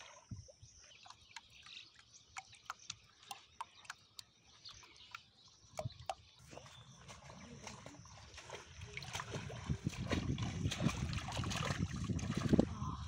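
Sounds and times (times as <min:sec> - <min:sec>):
small water splashes: 0:00.0 - 0:13.0
water drips and plinks: 0:00.0 - 0:13.0.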